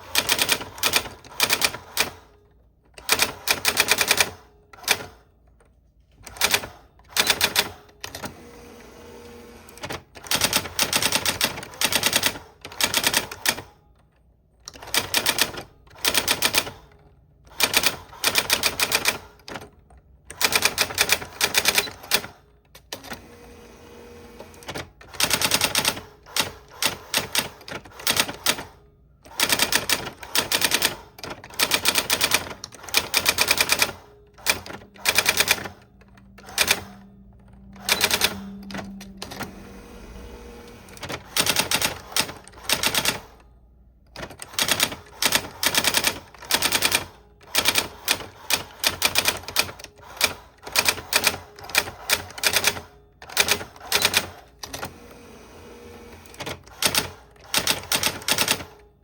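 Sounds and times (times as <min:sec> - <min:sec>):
typewriter keystrokes: 0:00.0 - 0:05.3, 0:06.1 - 0:08.4, 0:09.7 - 0:23.2, 0:24.4 - 0:55.0, 0:56.1 - 0:59.0.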